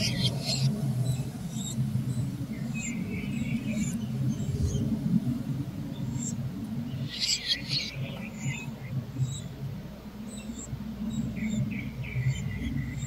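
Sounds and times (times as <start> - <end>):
small birds chirping: 0.0 - 5.0, 5.8 - 9.6, 10.2 - 13.0
steady low hum: 0.0 - 13.0.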